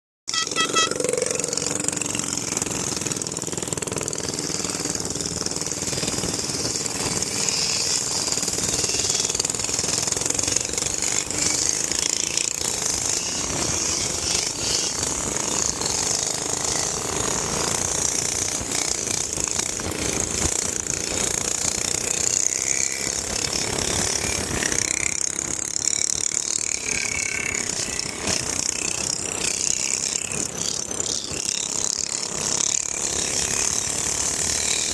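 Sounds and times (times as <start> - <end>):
minibike engine running: 0.3 - 34.9.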